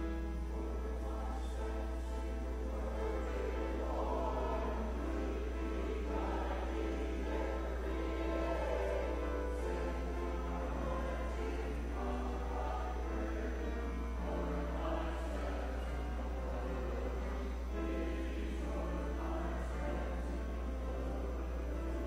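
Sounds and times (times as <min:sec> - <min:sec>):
church choir singing: 0:00.0 - 0:22.0.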